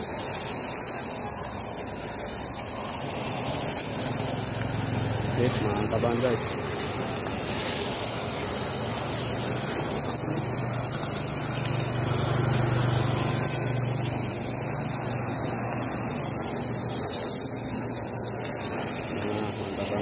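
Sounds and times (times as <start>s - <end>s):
blow torch hissing: 0.0s - 20.0s.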